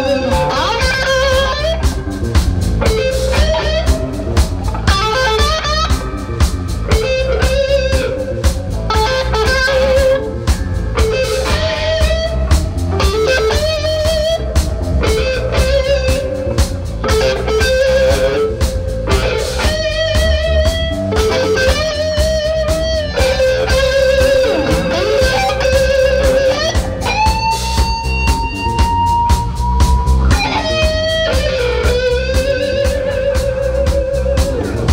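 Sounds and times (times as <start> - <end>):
bass guitar: 0.0 - 34.9
drums: 0.0 - 34.9
electric guitar lead with bent notes: 0.0 - 34.9.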